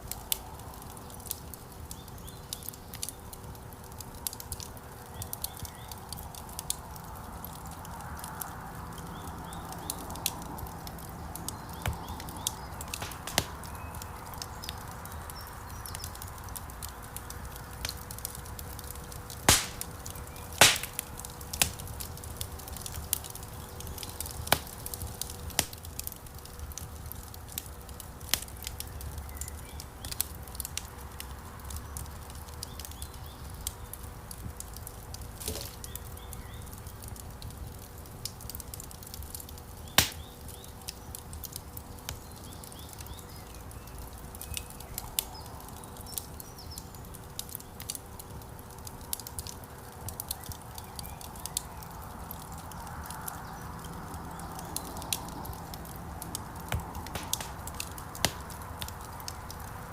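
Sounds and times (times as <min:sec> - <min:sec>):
low rumble of flames: 0:00.0 - 0:59.9
wood fire pops and snaps: 0:00.0 - 0:59.9.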